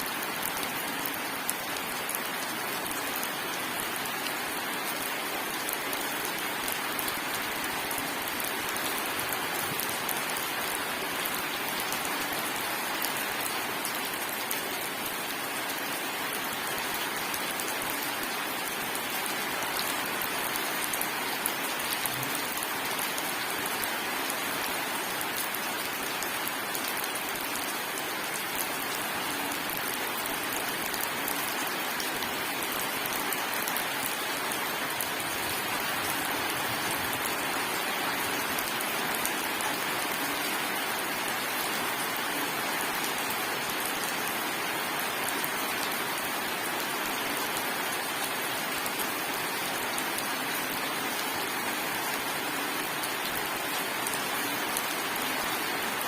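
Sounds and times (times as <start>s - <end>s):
steady rain patter: 0.0s - 56.0s.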